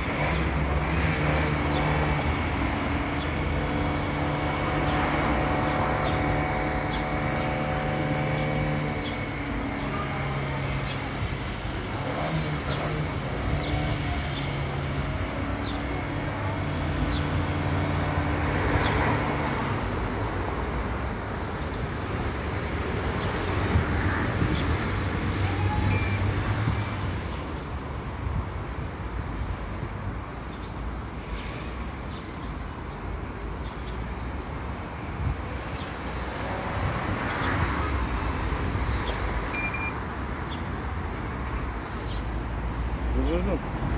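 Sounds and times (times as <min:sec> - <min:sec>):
large vehicle engine humming: 0:00.0 - 0:35.4
passing cars: 0:00.0 - 0:43.9.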